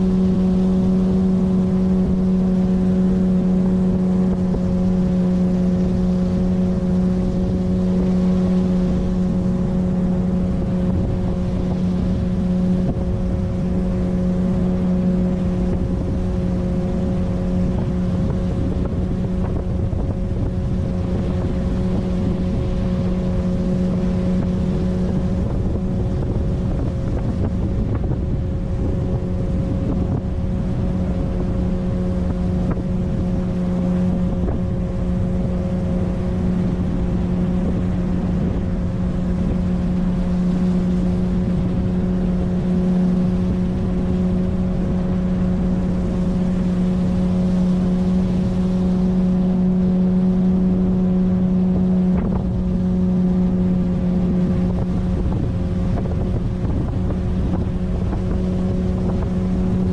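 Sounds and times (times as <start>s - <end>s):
outboard motor running: 0.0s - 59.9s
wind rumbling on microphone: 0.0s - 59.9s.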